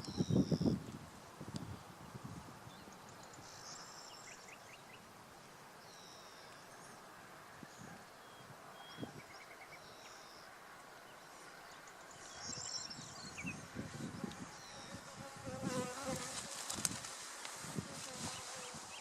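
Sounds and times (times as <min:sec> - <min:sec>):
songbird calls and chirps: 0:00.0 - 0:15.1, 0:18.2 - 0:19.0
outdoor background hiss: 0:00.0 - 0:19.0.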